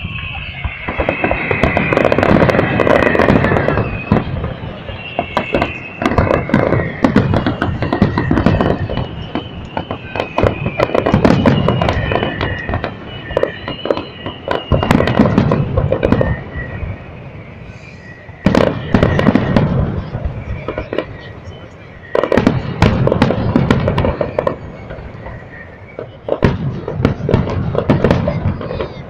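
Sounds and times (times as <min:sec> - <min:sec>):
fireworks bangs and crackling: 0:00.0 - 0:29.0
high whistling fireworks: 0:00.0 - 0:29.0.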